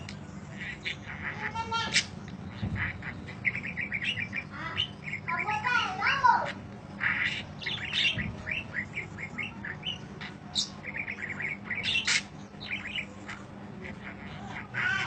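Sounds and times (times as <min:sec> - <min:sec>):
budgerigar warbling: 0:00.4 - 0:15.0
budgerigar squawks: 0:00.5 - 0:15.0.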